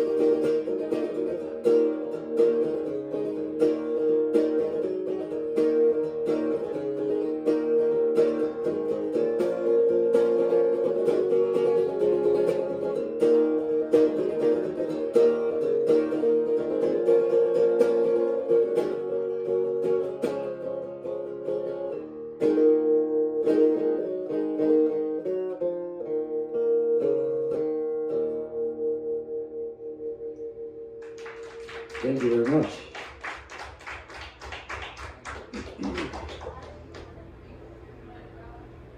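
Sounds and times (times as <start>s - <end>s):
acoustic guitar strummed blues: 0.0s - 33.2s.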